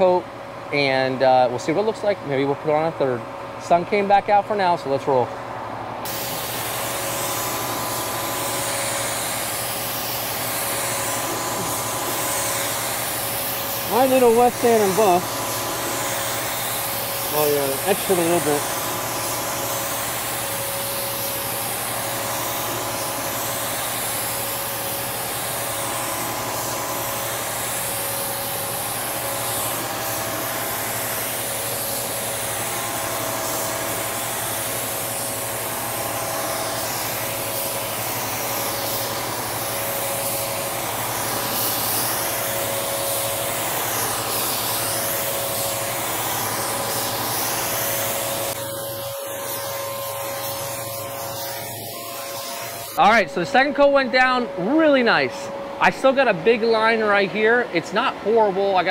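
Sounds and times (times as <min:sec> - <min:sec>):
blower fans humming: 0:00.0 - 0:58.9
spray gun hissing: 0:06.1 - 0:58.9.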